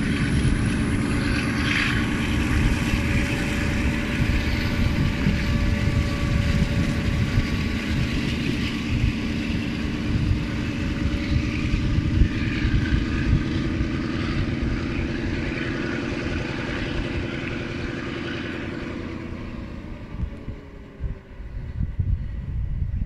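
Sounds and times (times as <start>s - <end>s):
diesel locomotive engine: 0.0s - 23.0s.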